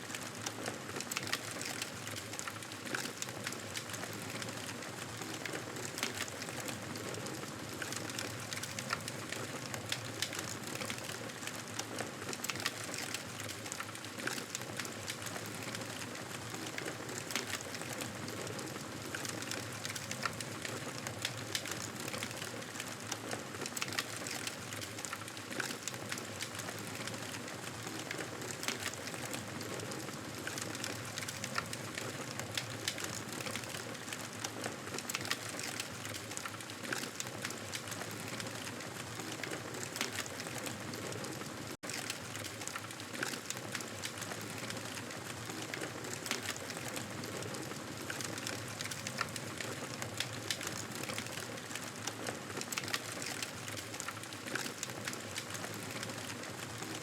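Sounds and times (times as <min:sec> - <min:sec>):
crackling and pattering clicks: 0:00.1 - 0:57.0.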